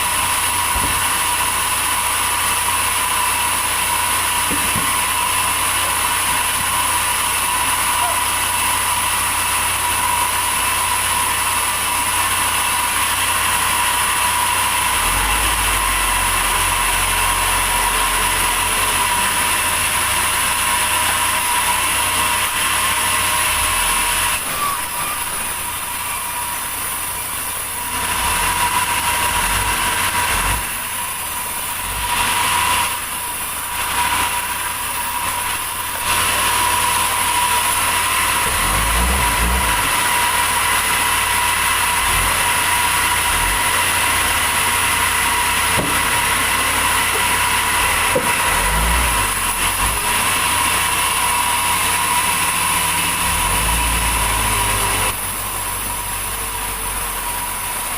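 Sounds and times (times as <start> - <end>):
sawmill saw whining: 0.0 - 57.9.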